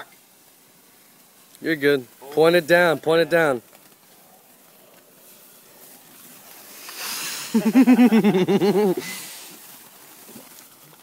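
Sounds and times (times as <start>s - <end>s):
firework hissing: 0.0s - 11.0s.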